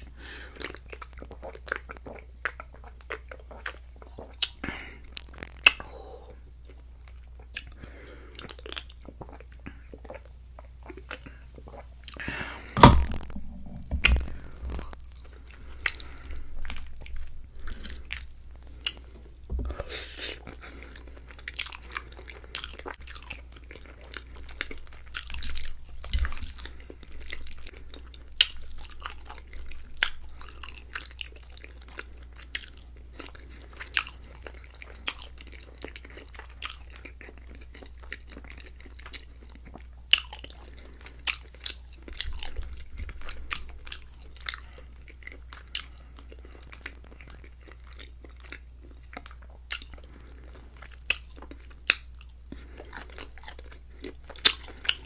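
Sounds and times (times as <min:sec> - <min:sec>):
chewing pasta: 0:00.0 - 0:55.0.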